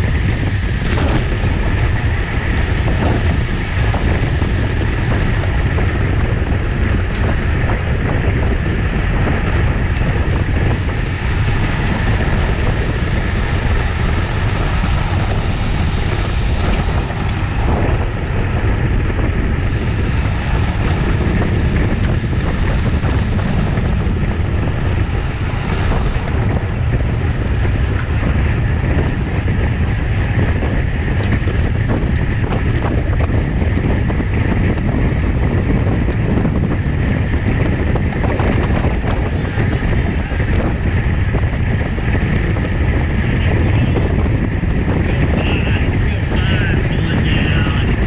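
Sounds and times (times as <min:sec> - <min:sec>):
loud wind on microphone: 0:00.0 - 0:48.0.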